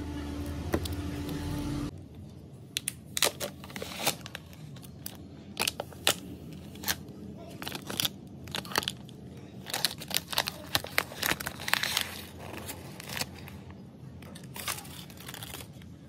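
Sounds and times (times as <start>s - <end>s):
plastic film crinkling: 2.8s - 16.0s.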